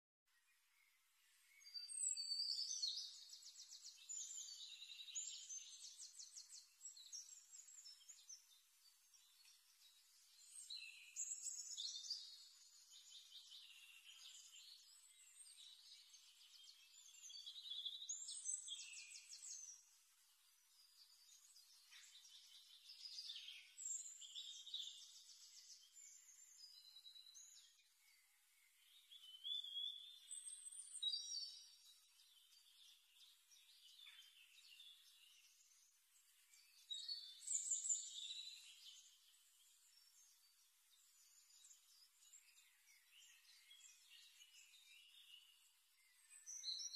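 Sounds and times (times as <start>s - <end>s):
bird trills and chirps: 0.8s - 46.9s.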